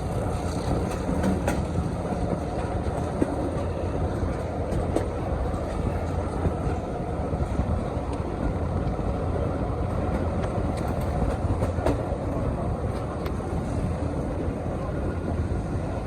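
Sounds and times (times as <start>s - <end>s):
diesel train rumbling on track: 0.0s - 16.0s
light clicks of train: 0.0s - 16.0s.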